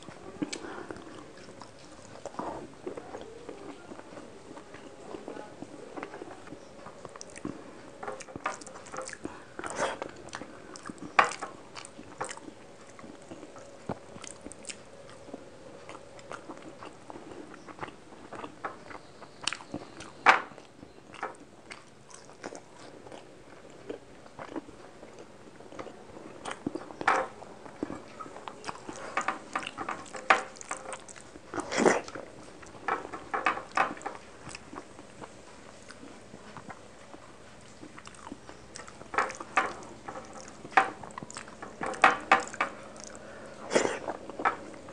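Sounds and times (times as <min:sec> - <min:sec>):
chewing and mouth smacking: 0:00.0 - 0:44.9.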